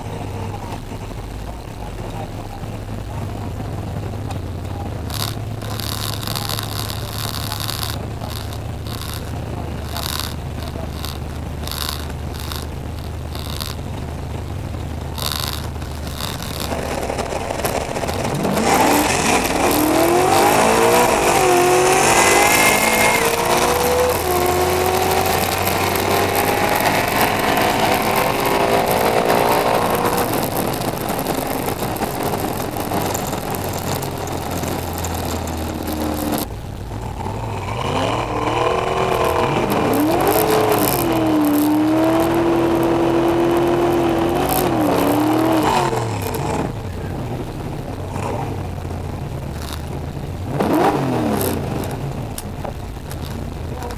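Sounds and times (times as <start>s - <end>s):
car engine revving hard: 3.2s - 53.9s.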